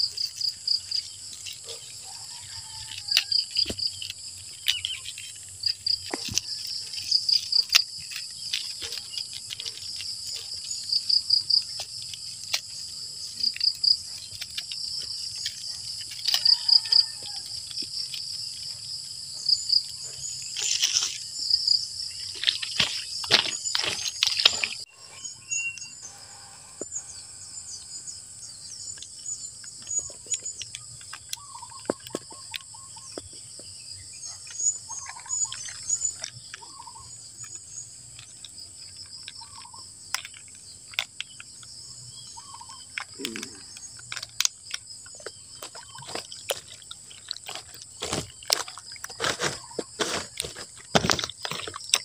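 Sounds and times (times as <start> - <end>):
bird calls: 0.0 - 12.6, 13.2 - 50.6
insects droning: 0.0 - 52.0.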